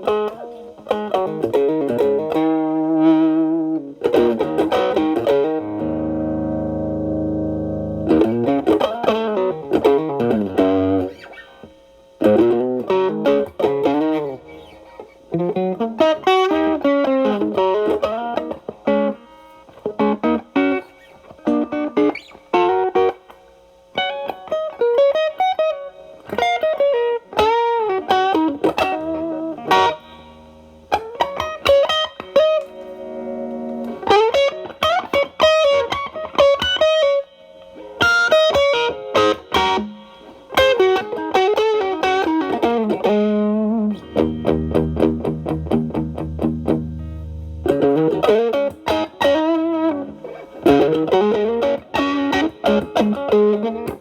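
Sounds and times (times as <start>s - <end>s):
overdriven electric guitar blues lead: 0.0s - 54.0s.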